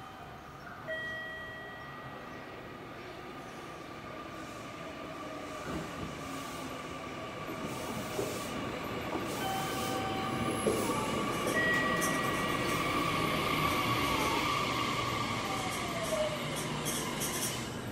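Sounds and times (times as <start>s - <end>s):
electric train passing: 0.0s - 17.9s.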